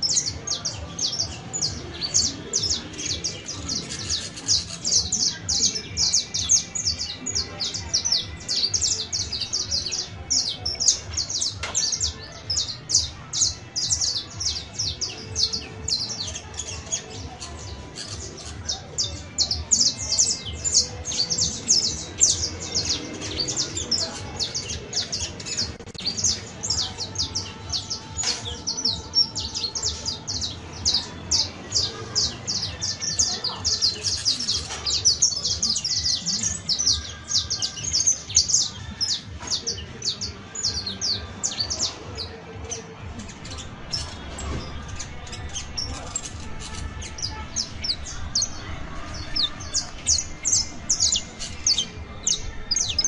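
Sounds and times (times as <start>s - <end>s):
finch singing rapid chirps: 0.0s - 53.0s.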